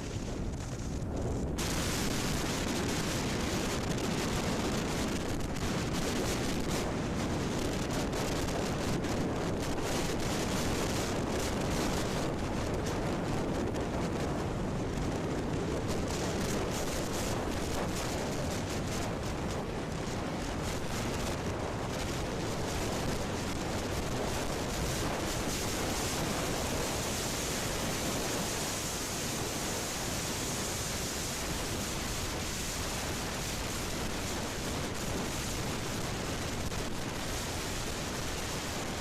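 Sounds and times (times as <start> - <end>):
wind rush on microphone: 0.0 - 39.0.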